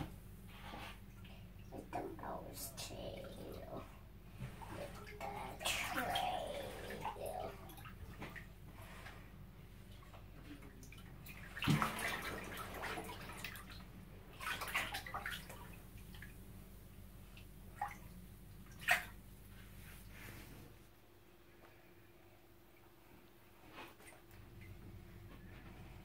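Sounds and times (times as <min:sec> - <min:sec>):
bathwater sloshing and splashing: 0:00.0 - 0:20.7, 0:22.8 - 0:26.0.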